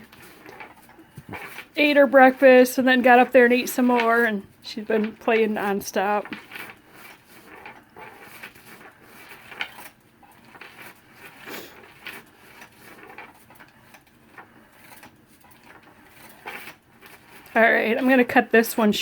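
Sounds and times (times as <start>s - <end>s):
kitten playing with toy on floor: 0.0s - 1.8s, 2.4s - 19.0s.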